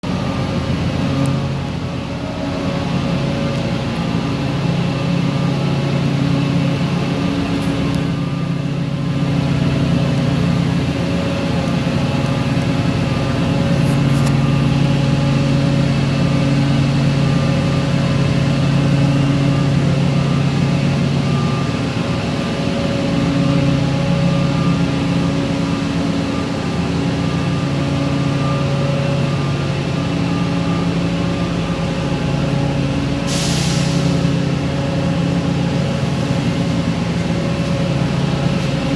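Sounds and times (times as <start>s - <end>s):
industrial machinery hum: 0.0s - 38.9s.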